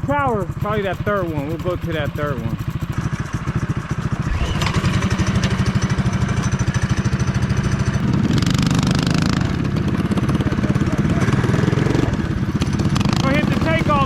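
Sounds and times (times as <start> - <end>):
small engine pulsing: 0.0 - 14.0.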